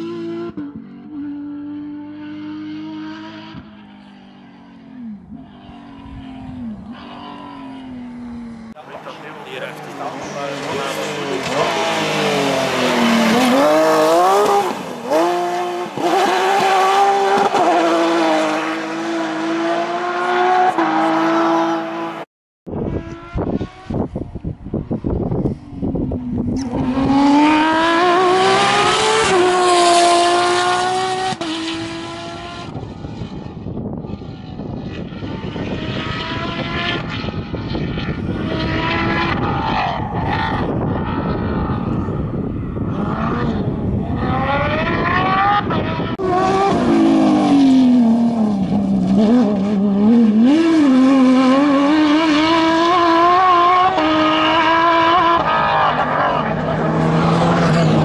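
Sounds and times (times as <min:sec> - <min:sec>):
rally car engines at full throttle: 0:00.0 - 0:58.0.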